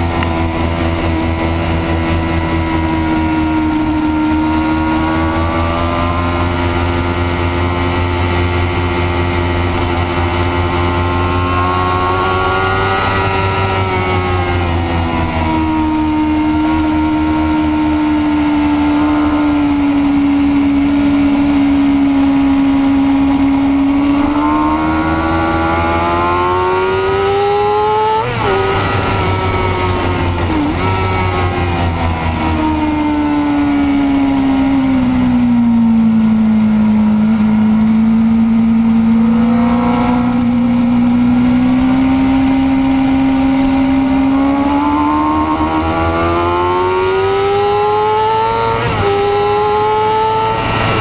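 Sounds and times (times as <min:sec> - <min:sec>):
motorcycle engine at high revs: 0:00.0 - 0:51.0.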